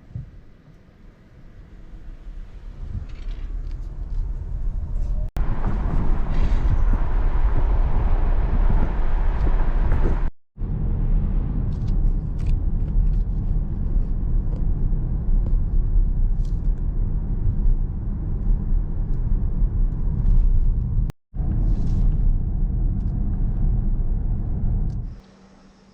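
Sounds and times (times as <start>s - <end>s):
car road and engine rumble: 0.0s - 25.6s.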